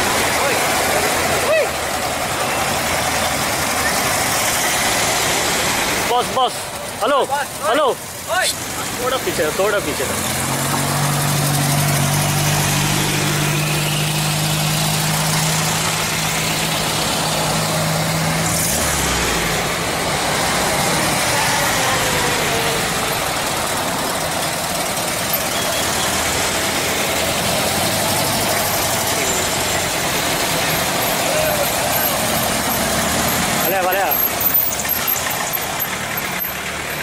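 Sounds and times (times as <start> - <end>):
traffic noise: 0.0 - 37.0.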